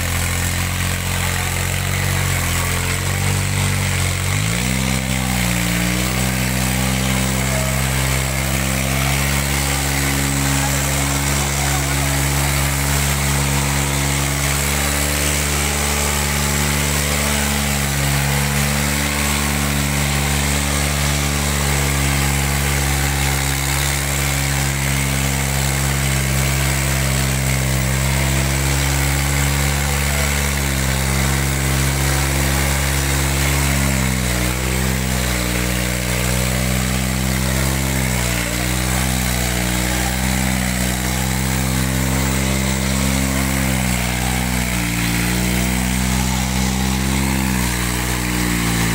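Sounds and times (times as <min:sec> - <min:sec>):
tractor engine under load: 0:00.0 - 0:48.9.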